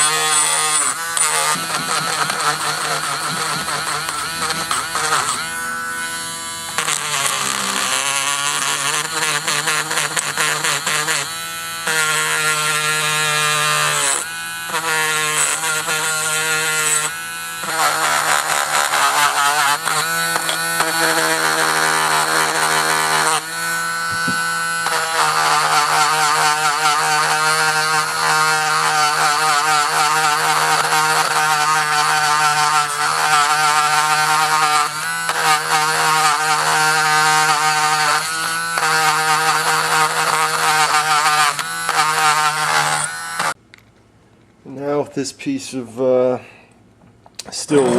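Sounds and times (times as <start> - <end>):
rotary tool grinding steel: 0.0 - 43.6, 47.7 - 47.9.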